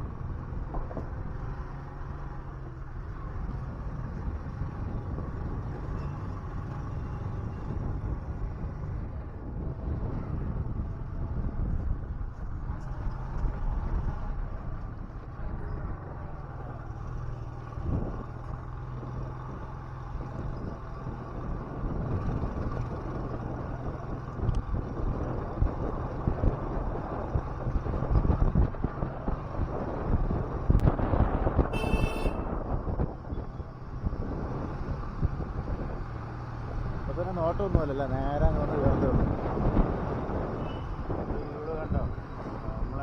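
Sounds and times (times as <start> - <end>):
wind buffeting microphone: 2.9 - 16.4, 17.5 - 43.0.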